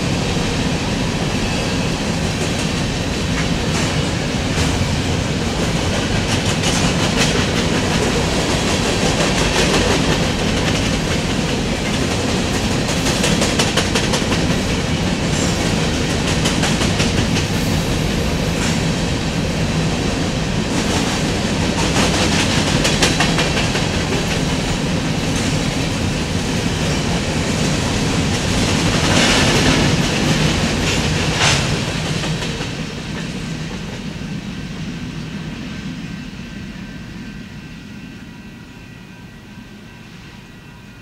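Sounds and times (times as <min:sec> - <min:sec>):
train wheels clattering: 0:00.0 - 0:34.2.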